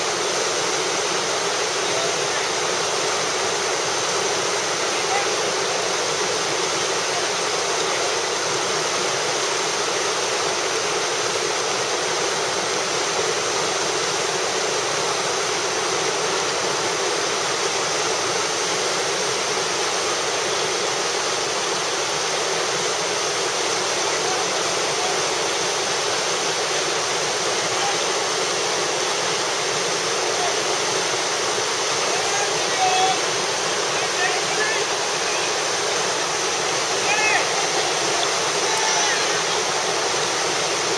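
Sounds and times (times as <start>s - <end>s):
whitewater rapid roaring: 0.0s - 40.9s.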